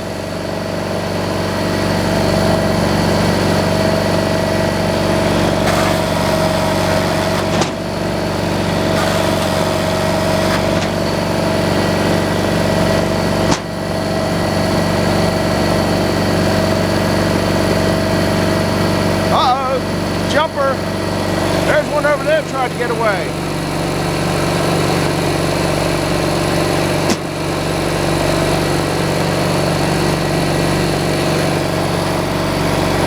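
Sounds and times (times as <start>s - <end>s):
engine running with whine: 0.0s - 33.0s.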